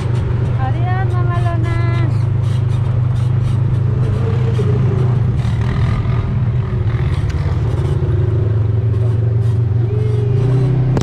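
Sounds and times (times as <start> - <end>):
off-road vehicle engine drone: 0.0 - 11.0.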